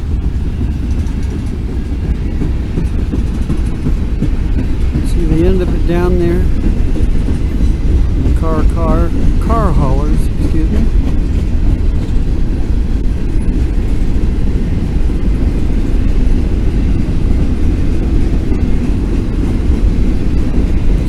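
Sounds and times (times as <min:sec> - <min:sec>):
freight train wheels rumbling on rails: 0:00.0 - 0:21.0.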